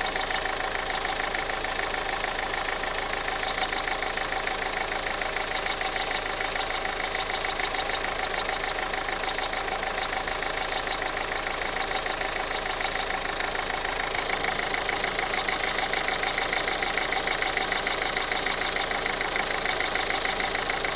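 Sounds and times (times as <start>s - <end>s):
diesel engine idling: 0.0s - 20.9s
rapid ticking clatter: 3.6s - 20.9s.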